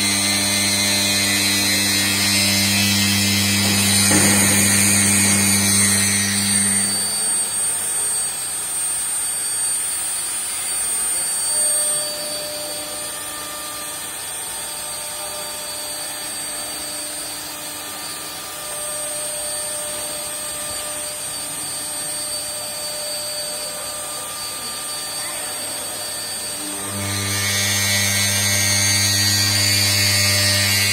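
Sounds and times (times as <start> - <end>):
loud low hum: 0.0 - 8.5, 11.4 - 30.9
cnc router high whine: 0.0 - 30.9.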